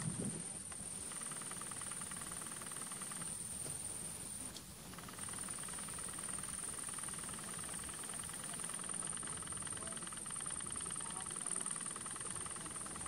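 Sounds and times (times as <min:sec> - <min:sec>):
insect high-pitched hiss: 0:00.0 - 0:13.0
insect pulsing trill: 0:00.0 - 0:13.0.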